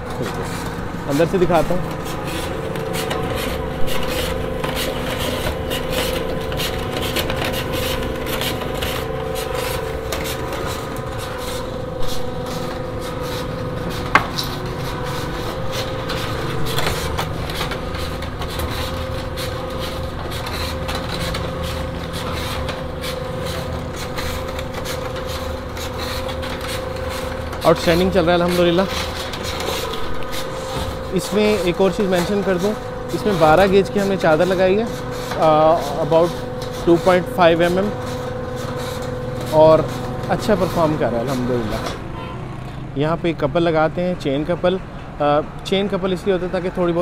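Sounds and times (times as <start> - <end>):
motor hum: 0.0 - 43.1.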